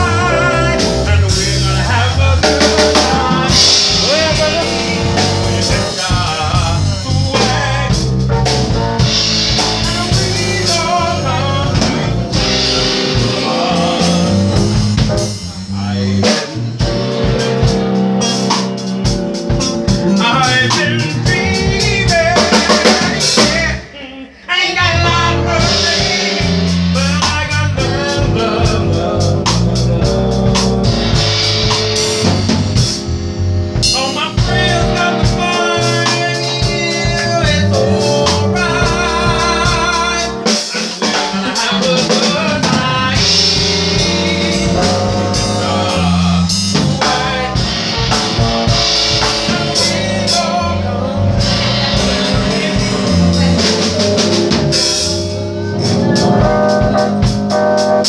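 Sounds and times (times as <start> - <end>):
person singing: 0.0 - 8.3, 9.5 - 30.7, 33.8 - 58.0
drum beat: 0.0 - 23.8, 24.8 - 58.0
keyboard playing: 0.0 - 58.0.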